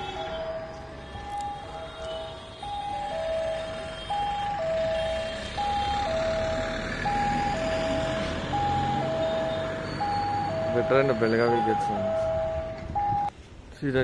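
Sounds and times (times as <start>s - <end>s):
level crossing two-tone alarm: 0.0s - 13.3s.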